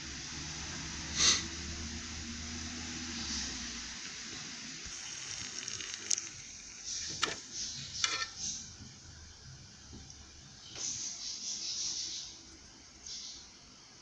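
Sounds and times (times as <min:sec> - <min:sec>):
liquid nitrogen sizzling and hissing: 0:00.0 - 0:11.6.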